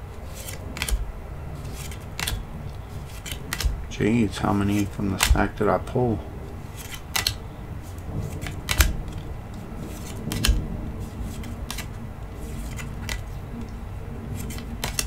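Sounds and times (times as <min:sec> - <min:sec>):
cards clicking and sliding: 0:00.1 - 0:06.0, 0:06.6 - 0:15.0.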